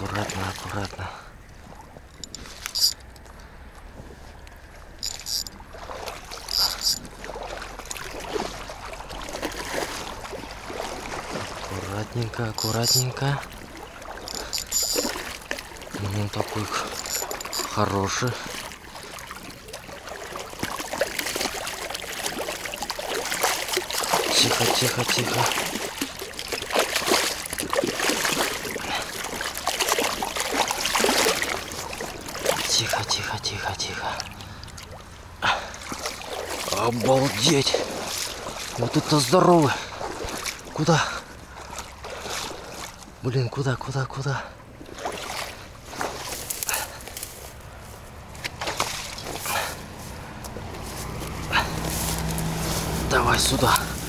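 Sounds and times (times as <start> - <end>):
water sloshing and splashing: 0.0 - 54.0.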